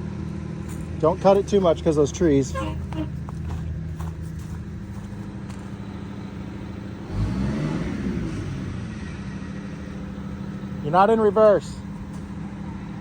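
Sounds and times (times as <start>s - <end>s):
bus engine idling and revving: 0.0s - 13.0s.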